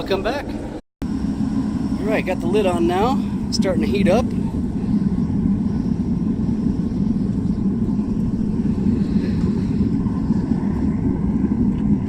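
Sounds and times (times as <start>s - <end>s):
furnace burner roaring: 0.0s - 12.0s.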